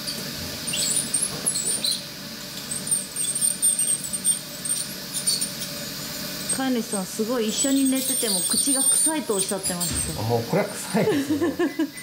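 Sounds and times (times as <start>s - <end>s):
dental scaler squeaks and whines: 0.0s - 10.4s.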